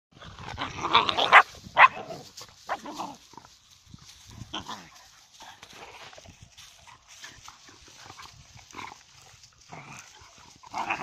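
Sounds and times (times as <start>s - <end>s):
dogs growling while play-fighting: 0.2s - 3.6s, 4.4s - 6.1s, 7.0s - 11.0s.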